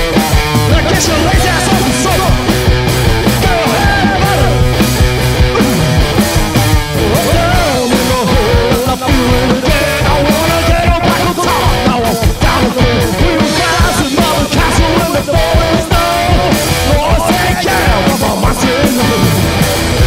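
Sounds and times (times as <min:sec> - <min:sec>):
electric guitar: 0:00.0 - 0:20.0
punk rock band playing: 0:00.0 - 0:20.0.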